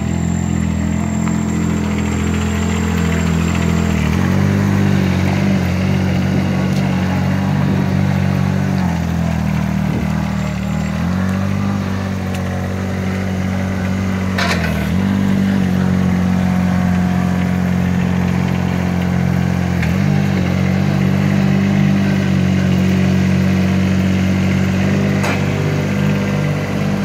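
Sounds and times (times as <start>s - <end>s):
mini loader engine running: 0.0s - 27.0s.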